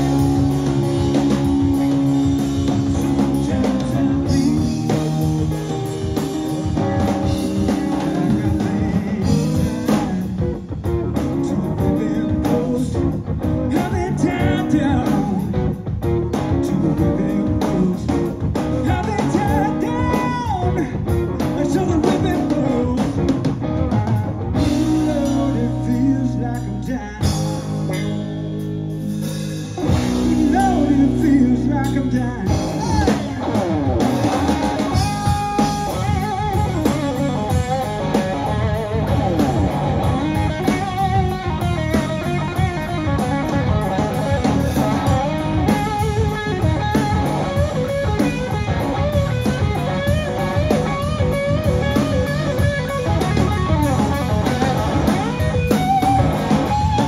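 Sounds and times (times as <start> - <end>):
bending lead guitar notes: 0.0 - 57.0
rock band playing blues-rock: 0.0 - 57.0.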